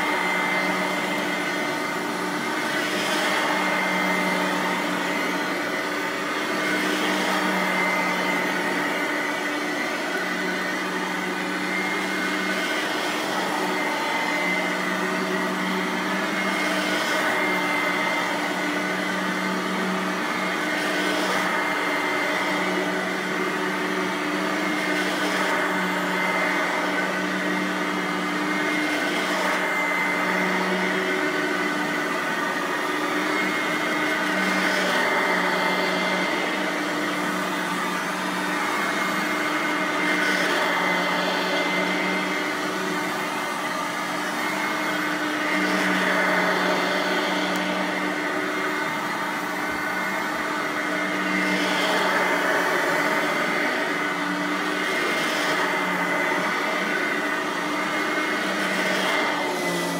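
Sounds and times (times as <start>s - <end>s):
upright vacuum running on carpet: 0.0s - 59.9s.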